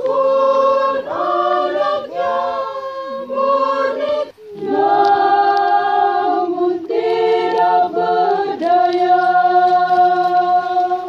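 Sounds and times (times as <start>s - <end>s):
choir singing a hymn: 0.0s - 11.0s.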